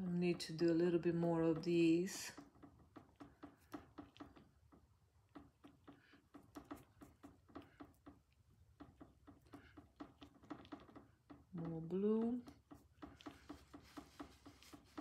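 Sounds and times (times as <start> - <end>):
paintbrush dabbing on a palette: 0.0 - 15.0.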